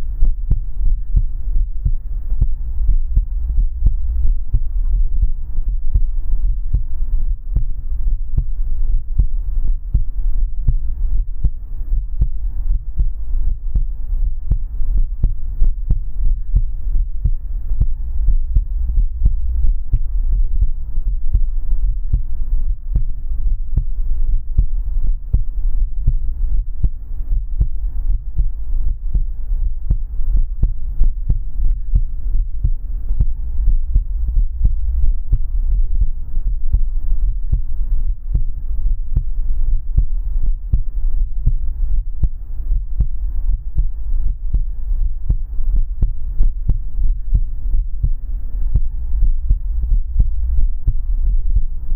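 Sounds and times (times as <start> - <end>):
faint steady hum: 0.0 - 51.9
heartbeat thuds: 0.0 - 51.9.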